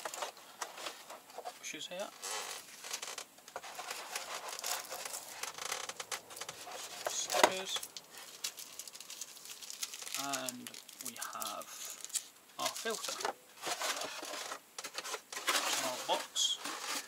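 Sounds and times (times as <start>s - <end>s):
plastic packaging crinkling: 2.1s - 17.0s
sharp crackle: 2.1s - 17.0s.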